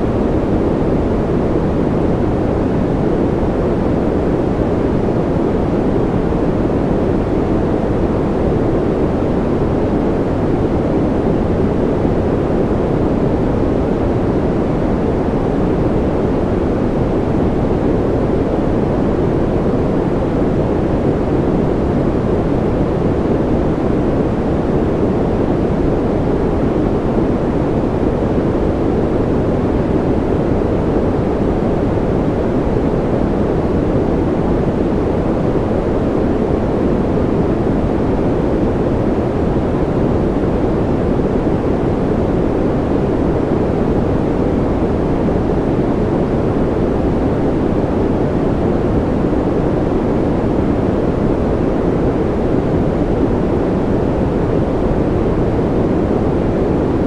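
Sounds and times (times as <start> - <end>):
low rushing white noise: 0.0 - 57.0.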